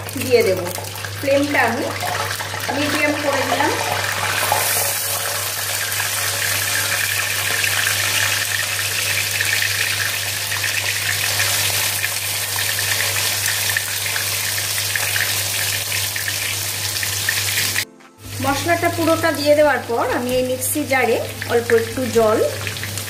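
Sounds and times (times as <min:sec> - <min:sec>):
paste sizzling in hot oil: 0:00.8 - 0:23.0.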